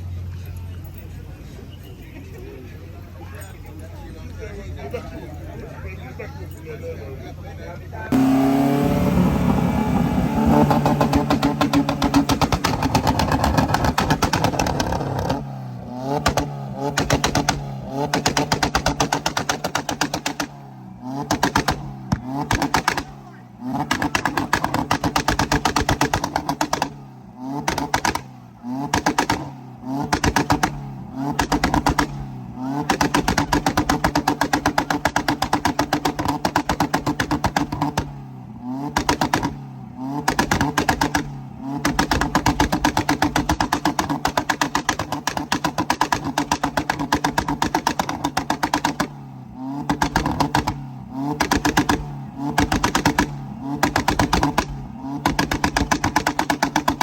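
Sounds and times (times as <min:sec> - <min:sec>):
car engine revving: 0:07.8 - 0:57.0.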